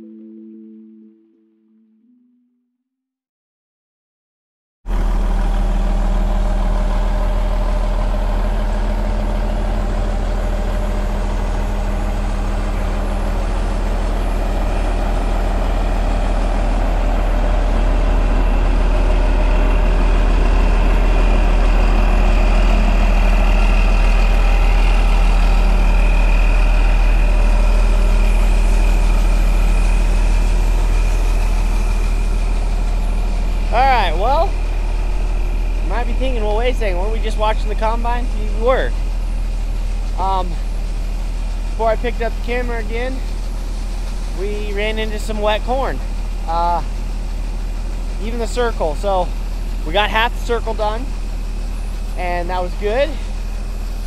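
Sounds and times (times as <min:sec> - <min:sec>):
high whine: 0:00.0 - 0:02.4, 0:05.0 - 0:54.0
diesel engine idling: 0:04.9 - 0:54.0.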